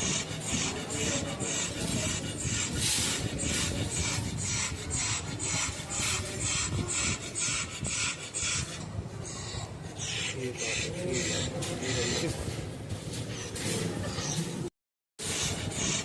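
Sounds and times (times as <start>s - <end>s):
dog breathing with rasping rattle: 0.0s - 14.6s, 15.2s - 16.0s.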